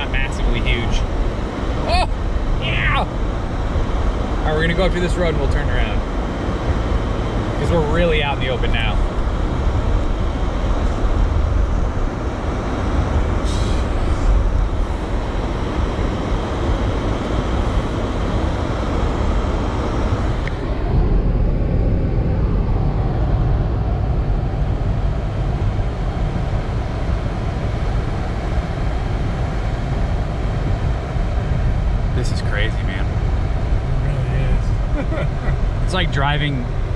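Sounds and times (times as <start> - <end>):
tyre and wind noise in car: 0.0 - 36.9.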